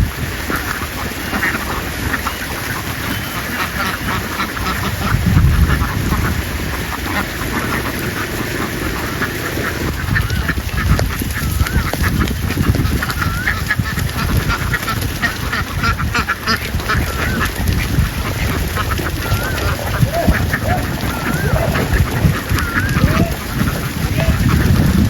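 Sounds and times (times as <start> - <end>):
ducks quacking: 0.3 - 25.0.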